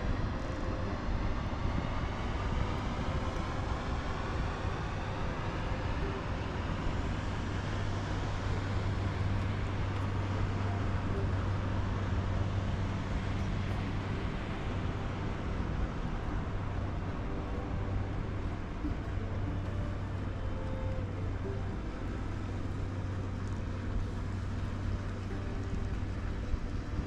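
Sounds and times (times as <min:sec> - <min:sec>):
boat engine droning: 0:00.0 - 0:27.0
wind and water rushing: 0:00.0 - 0:27.0.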